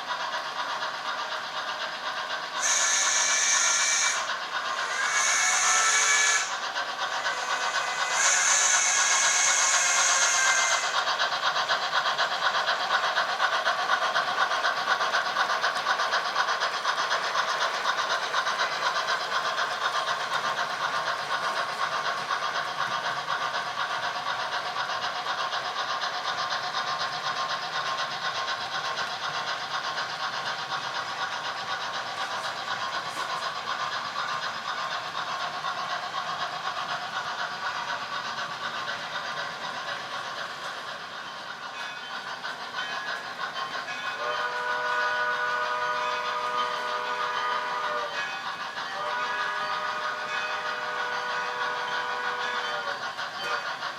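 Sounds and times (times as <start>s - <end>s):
model train rattling on track: 0.0s - 53.9s.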